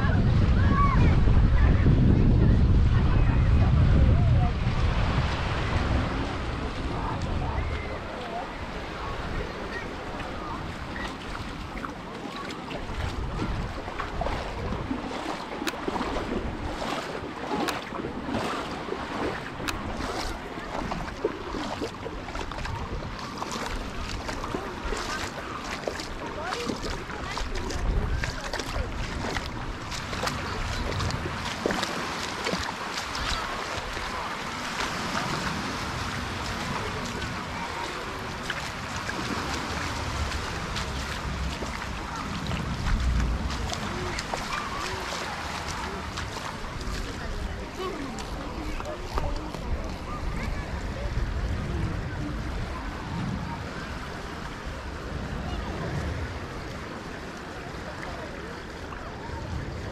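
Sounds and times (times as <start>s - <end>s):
faint voices: 0.0s - 59.9s
sea waves washing: 0.0s - 59.9s
wind buffeting microphone: 0.0s - 59.9s.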